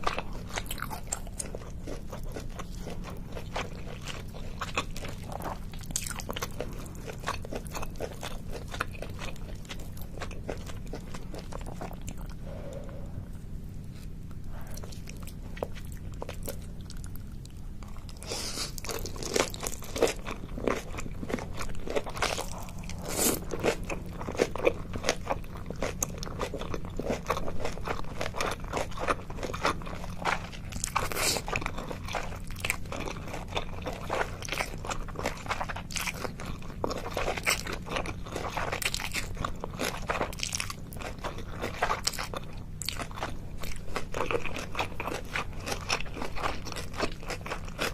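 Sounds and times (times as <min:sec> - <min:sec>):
crunching and chewing food: 0:00.0 - 0:47.9
faint low hum: 0:00.0 - 0:47.9.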